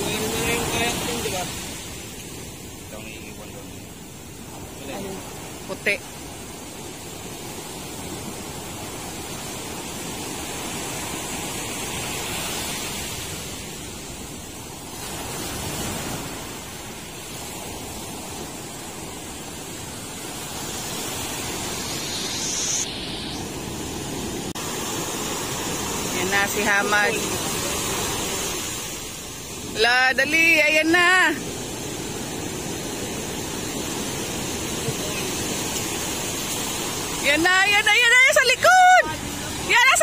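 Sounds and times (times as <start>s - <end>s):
surf breaking on shore: 0.0s - 40.0s.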